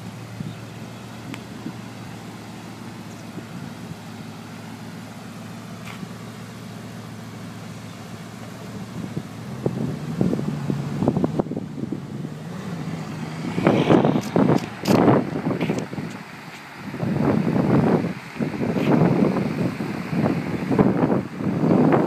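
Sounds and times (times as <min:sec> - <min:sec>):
car engine idling and pulling away: 0:00.0 - 0:22.0.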